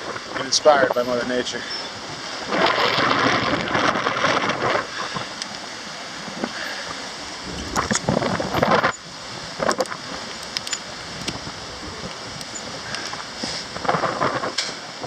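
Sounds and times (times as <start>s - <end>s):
gusty wind buffeting microphone: 2.0s - 15.0s.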